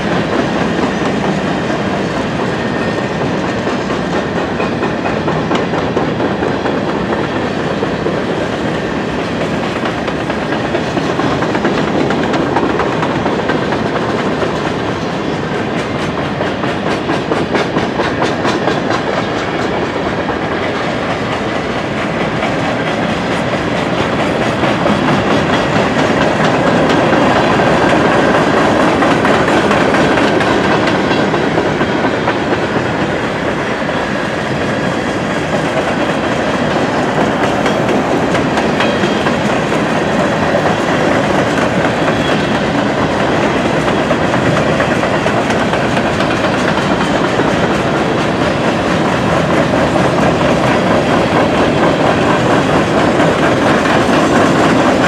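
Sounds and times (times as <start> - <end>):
freight train wheels rumbling: 0.0 - 55.0
wheels clicking over rail joints: 0.0 - 55.0.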